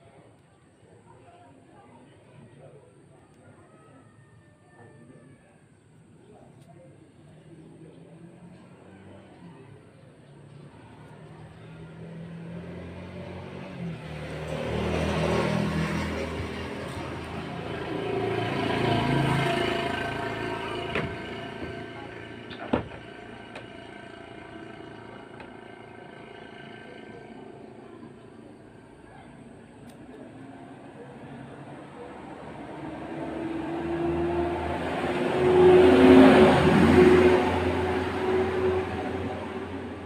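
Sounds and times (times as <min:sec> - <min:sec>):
passing vehicle engine: 0:07.4 - 0:40.0.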